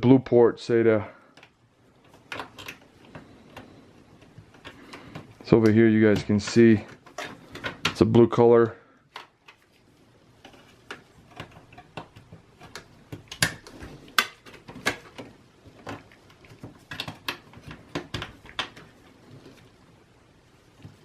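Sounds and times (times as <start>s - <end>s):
hands handling computer parts: 1.3s - 19.9s, 20.5s - 21.0s.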